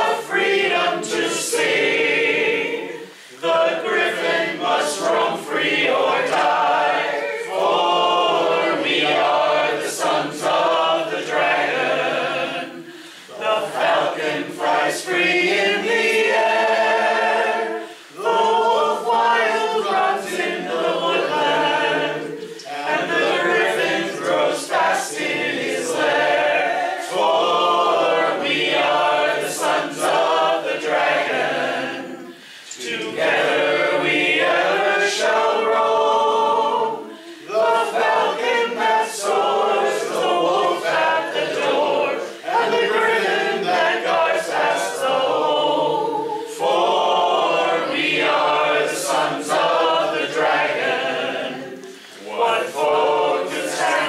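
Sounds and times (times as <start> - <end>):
group singing a cappella: 0.0 - 54.0.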